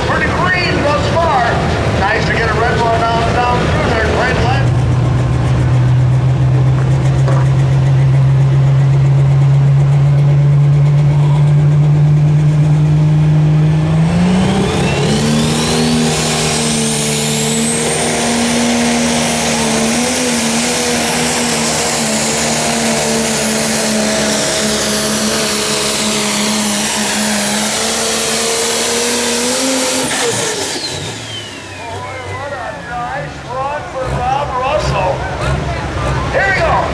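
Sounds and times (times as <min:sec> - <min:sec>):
diesel engine revving: 0:00.0 - 0:36.9
turbocharger whine: 0:00.0 - 0:36.9.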